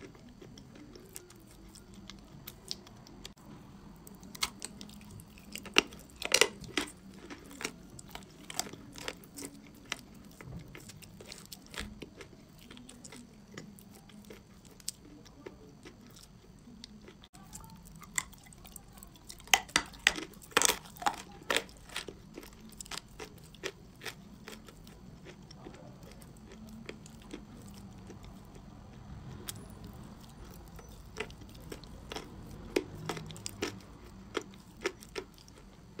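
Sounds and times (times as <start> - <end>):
person chewing chalk crunchily: 0.0 - 3.4, 4.0 - 36.0.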